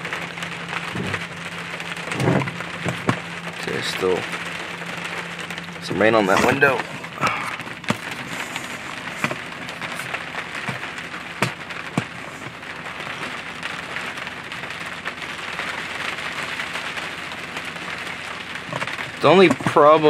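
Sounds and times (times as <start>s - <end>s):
rain hissing on truck shell: 0.0s - 20.0s
rain taps: 0.0s - 20.0s.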